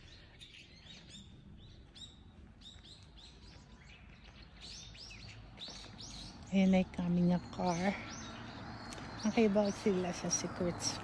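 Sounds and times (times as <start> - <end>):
faint outdoor background noise: 0.0 - 11.0
small birds chirping: 0.0 - 11.0.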